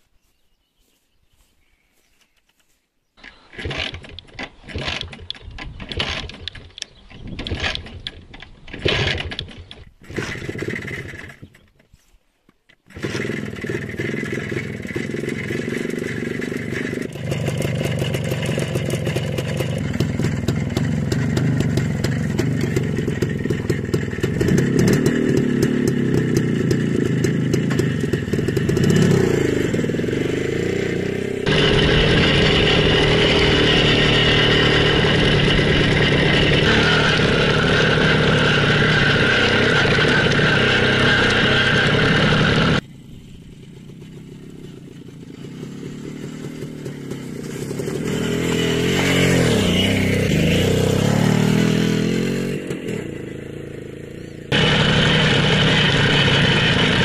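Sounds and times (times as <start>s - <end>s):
motorcycle engine starting and running: 2.4s - 12.1s, 12.7s - 57.0s.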